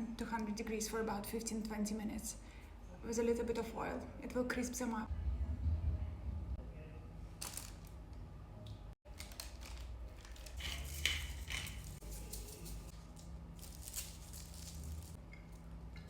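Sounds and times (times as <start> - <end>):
steady low hum: 2.3 - 16.0.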